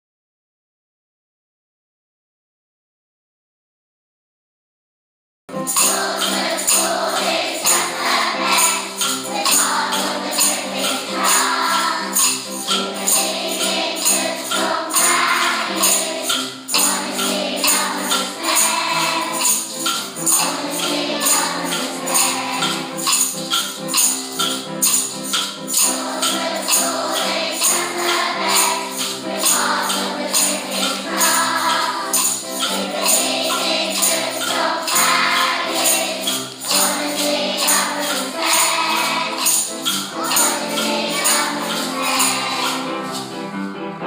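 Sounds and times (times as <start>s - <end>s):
tambourine shaking: 5.5s - 43.8s
upbeat music: 5.6s - 44.0s
voices singing: 5.7s - 43.4s.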